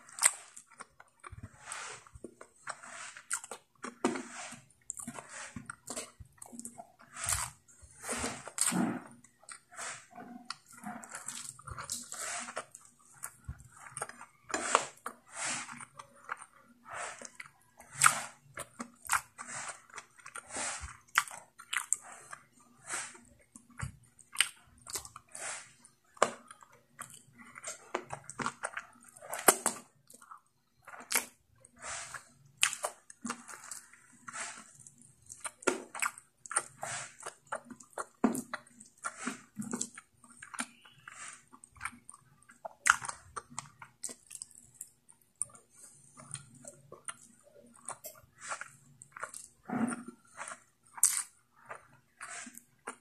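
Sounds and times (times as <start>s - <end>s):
person chewing with wet mouth sounds: 0.0s - 53.0s.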